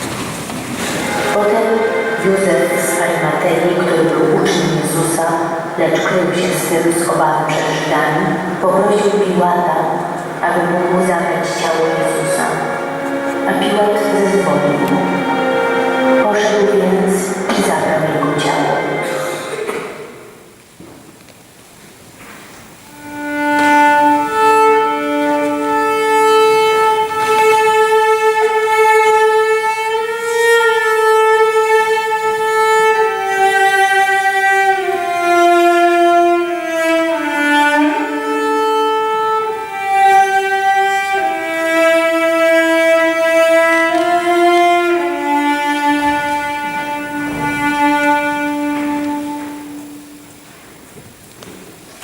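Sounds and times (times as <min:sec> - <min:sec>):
slow bowed string music: 0:00.0 - 0:20.6, 0:22.9 - 0:51.6.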